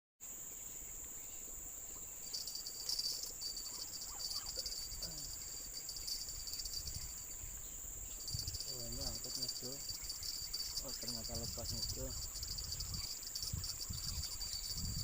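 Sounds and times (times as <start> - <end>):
insect pulsing chirp: 0.2 - 15.0
insects droning: 0.2 - 15.0.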